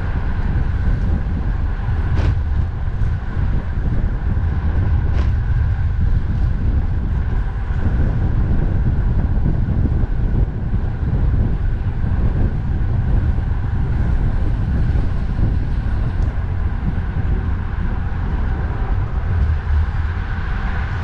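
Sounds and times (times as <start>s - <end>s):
road traffic noise: 0.0s - 21.0s
wind rumble on microphone: 0.0s - 21.0s.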